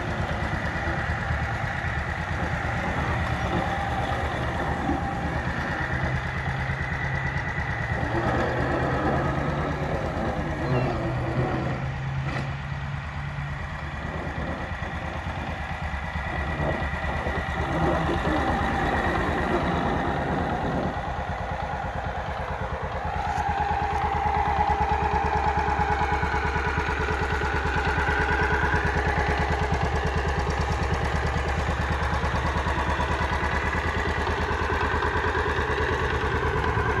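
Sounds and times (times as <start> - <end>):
small lawn mower engine running: 0.0 - 37.0.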